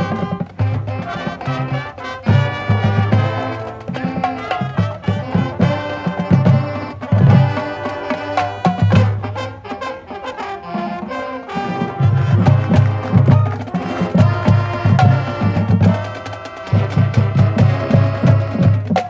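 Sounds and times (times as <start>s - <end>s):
marching band playing: 0.0s - 19.0s
marching drums: 0.0s - 19.0s.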